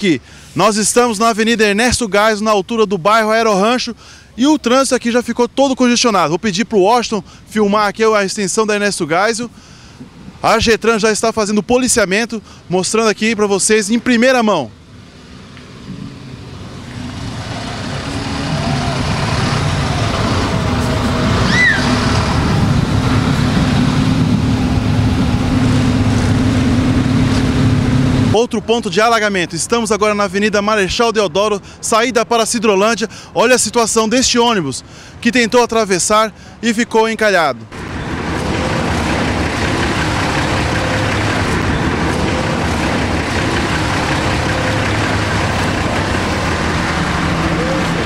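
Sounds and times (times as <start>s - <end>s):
traffic engines droning: 0.0s - 48.0s.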